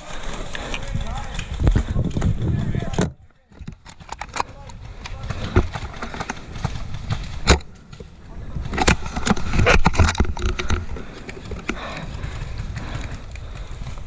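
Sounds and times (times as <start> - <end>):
wind rumbling on microphone: 0.0 - 14.0
knocks and rustles: 1.0 - 14.0.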